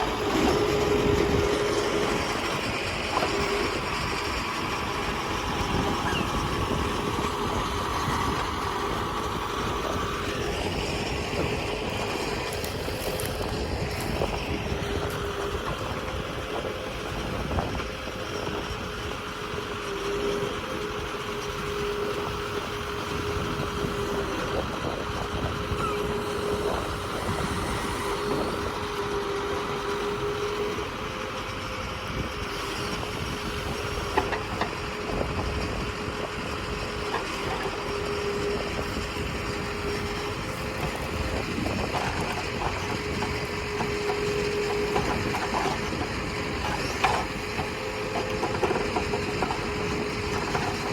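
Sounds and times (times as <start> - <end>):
excavator engine and hydraulics: 0.0 - 50.9.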